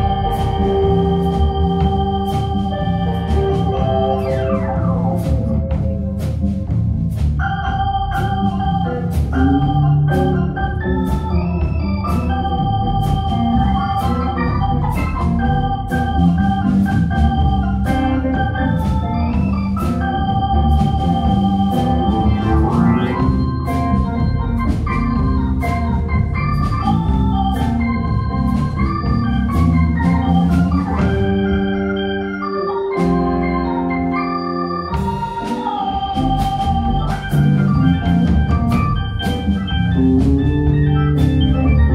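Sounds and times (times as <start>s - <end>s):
bass guitar: 0.0s - 41.9s
drum kit with cymbals: 0.0s - 41.9s
electric organ: 0.0s - 41.9s.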